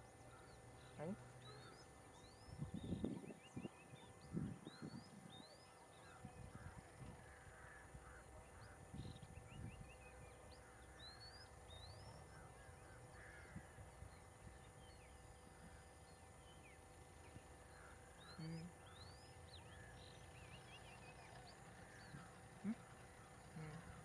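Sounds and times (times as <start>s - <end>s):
bird calls and chirps: 0.0s - 24.0s.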